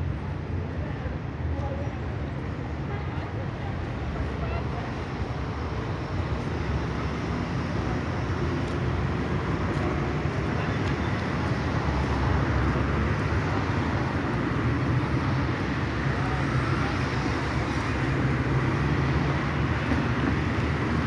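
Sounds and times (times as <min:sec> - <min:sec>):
city road traffic rumble: 0:00.0 - 0:21.0.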